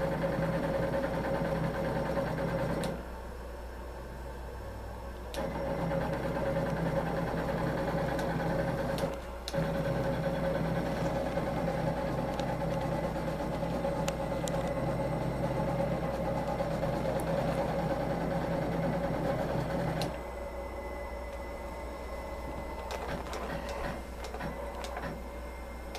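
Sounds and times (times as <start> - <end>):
embroidery machine stitching hum: 0.0 - 3.2, 4.0 - 25.9.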